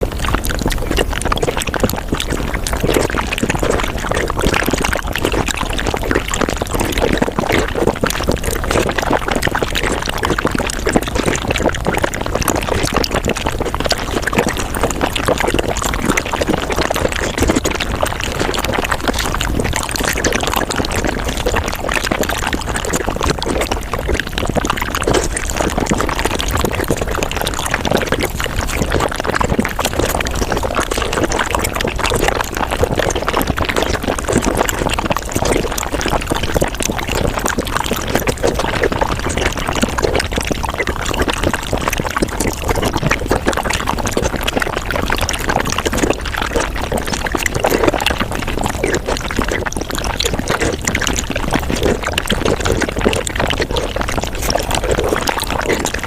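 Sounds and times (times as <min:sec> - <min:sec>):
mouth clicks smacks and slurps: 0:00.0 - 0:56.0.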